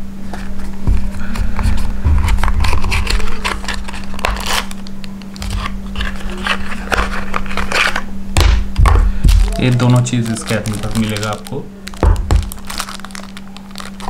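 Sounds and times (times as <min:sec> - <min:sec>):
steady low hum: 0:00.0 - 0:14.0
box and plastic bag rustling: 0:00.2 - 0:08.1, 0:09.1 - 0:14.0.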